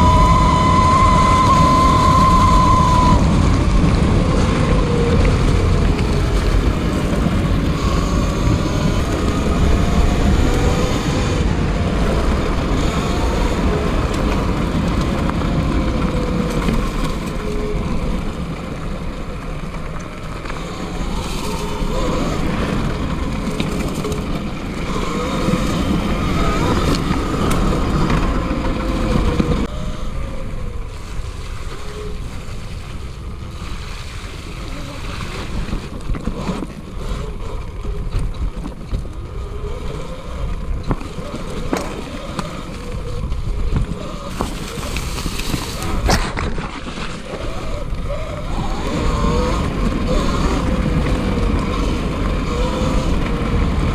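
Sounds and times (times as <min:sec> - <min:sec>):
electric motor whine: 0:00.0 - 0:32.2, 0:39.1 - 0:53.9
tyres rumbling on a trail: 0:00.0 - 0:53.9.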